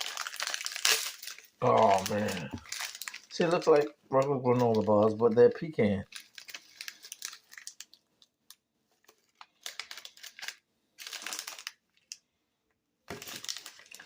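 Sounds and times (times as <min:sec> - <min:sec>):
plastic wrapper crinkling: 0:00.0 - 0:12.3, 0:13.1 - 0:14.0.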